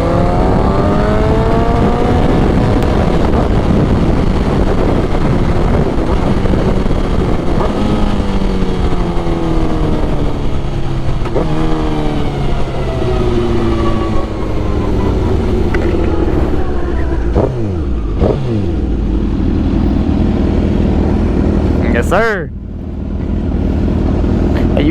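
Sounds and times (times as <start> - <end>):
motorcycle engine downshifting: 0.0 - 24.8
wind and road noise: 0.0 - 24.9.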